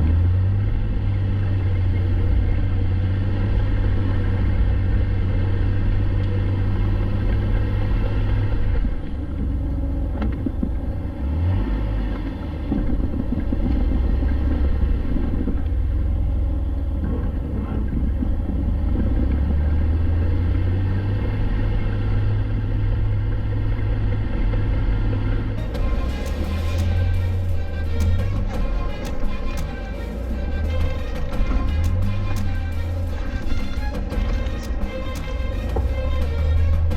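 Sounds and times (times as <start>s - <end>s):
car engine droning: 0.0s - 36.9s.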